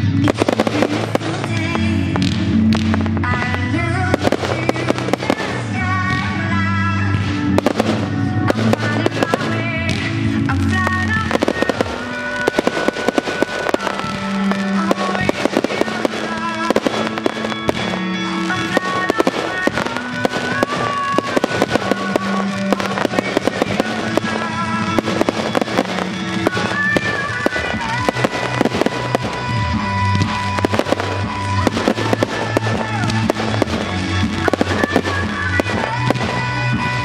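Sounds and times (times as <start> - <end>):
fireworks bangs: 0.0 - 37.0
music playing: 0.0 - 37.0.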